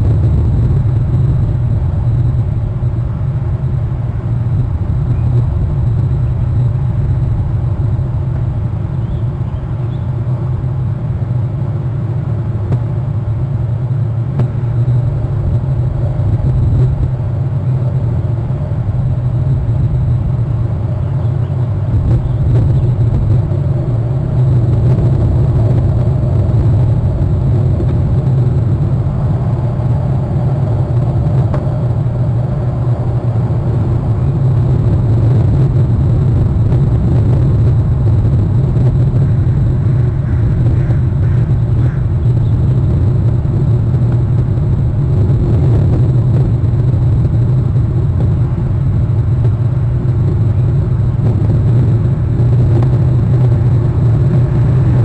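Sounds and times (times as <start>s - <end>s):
wind buffeting microphone: 0.0s - 11.6s, 14.2s - 55.0s.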